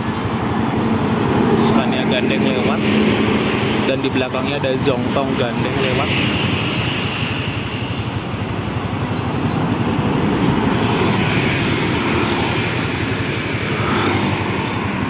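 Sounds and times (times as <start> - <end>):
motorcycle engine running: 0.0 - 15.0
traffic passing close by: 0.0 - 15.0
wind and tyre noise: 0.0 - 15.0.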